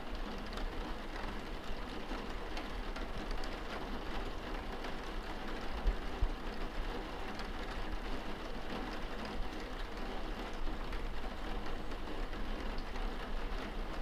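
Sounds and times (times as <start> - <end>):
rain pattering on window glass: 0.0 - 14.0
faint raindrop ticks: 0.1 - 14.0.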